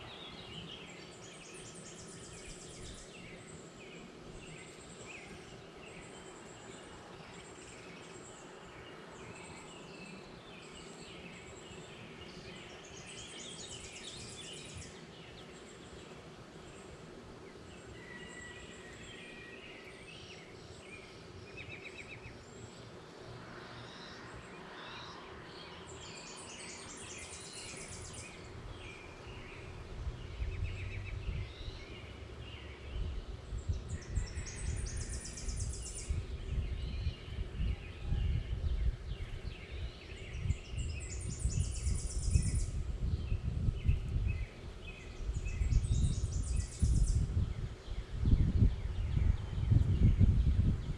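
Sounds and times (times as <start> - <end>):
birds chirping and singing: 0.0 - 23.1, 23.8 - 50.9.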